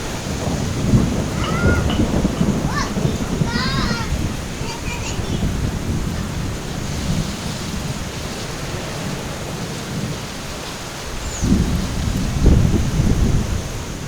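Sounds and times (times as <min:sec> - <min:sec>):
gusty wind rumble: 0:00.0 - 0:14.0.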